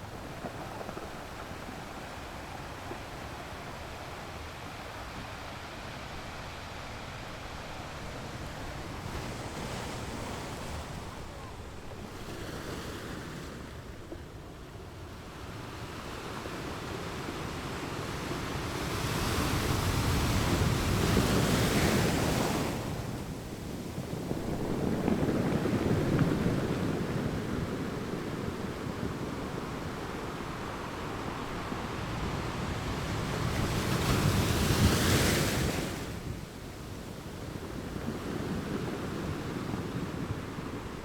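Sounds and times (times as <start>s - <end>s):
ocean surf: 0.0s - 41.0s
waves breaking with rushing hiss: 0.0s - 41.0s.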